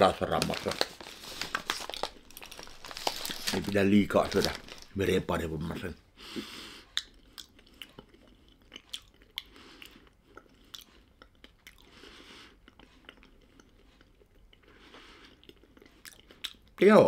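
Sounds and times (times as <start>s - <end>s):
faint chewing of crunchy crackers: 0.0s - 16.8s.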